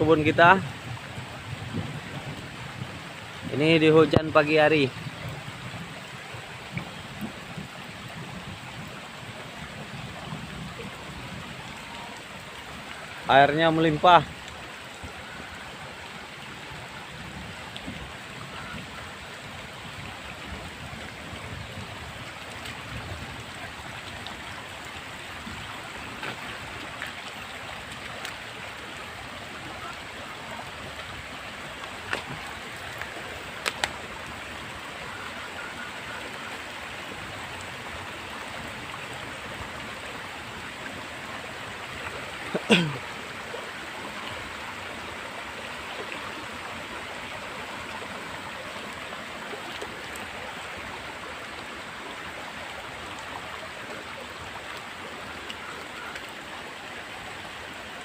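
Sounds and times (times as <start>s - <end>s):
runoff water running: 0.0s - 58.0s
steady rain: 0.0s - 58.0s.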